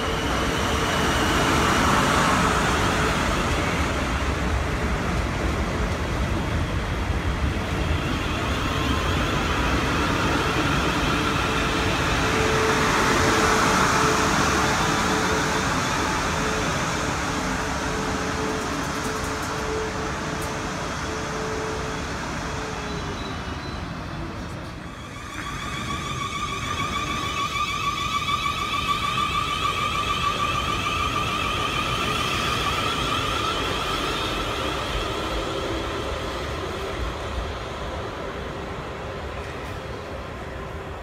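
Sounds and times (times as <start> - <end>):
train wheels rumbling: 0.0 - 41.0
train traction motor whine: 6.0 - 39.8.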